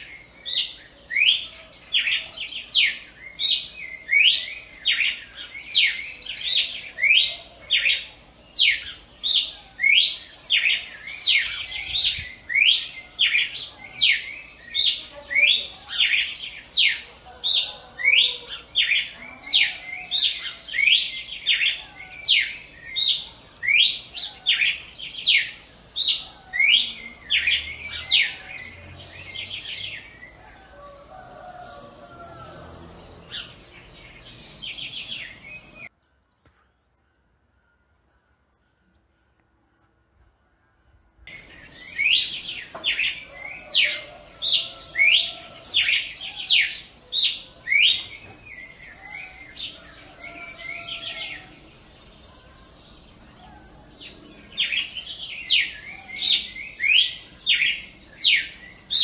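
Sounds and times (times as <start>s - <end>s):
bird singing: 0.0s - 59.0s.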